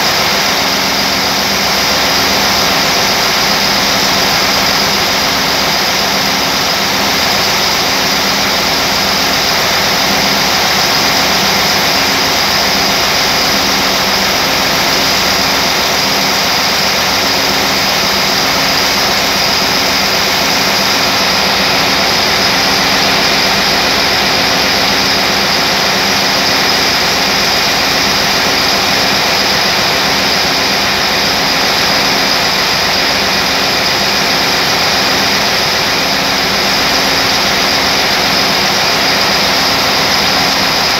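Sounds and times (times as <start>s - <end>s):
large engine running steadily: 0.0s - 40.9s.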